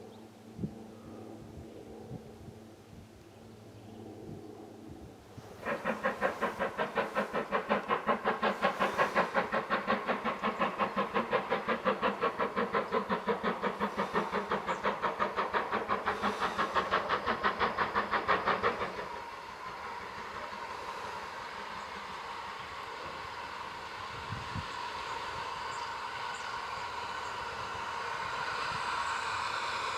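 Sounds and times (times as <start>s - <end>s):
steady steam hiss: 4.7s - 29.9s
steam locomotive exhaust beat: 5.3s - 29.9s.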